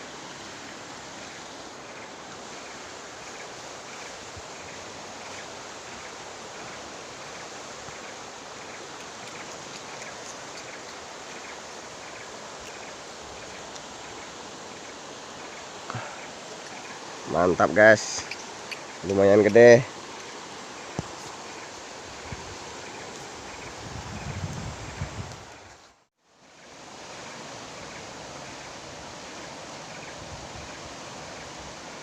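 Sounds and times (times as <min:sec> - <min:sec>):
river water rushing: 0:00.0 - 0:23.9, 0:26.3 - 0:32.0.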